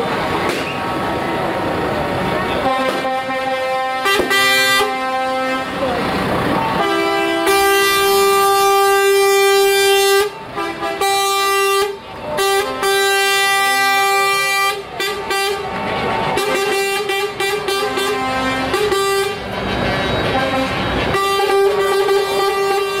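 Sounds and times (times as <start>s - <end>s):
truck air horns blasting: 2.2s - 23.0s.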